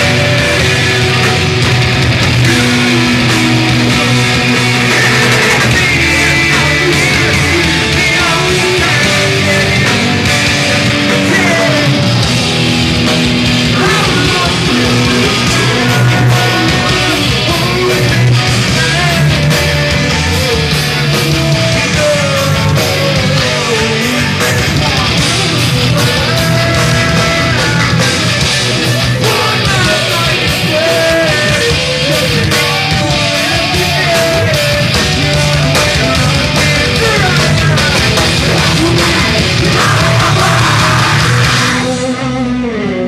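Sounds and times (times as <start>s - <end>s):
distorted electric guitars: 0.0s - 43.0s
drums: 0.0s - 43.0s
lead guitar melody: 0.0s - 43.0s.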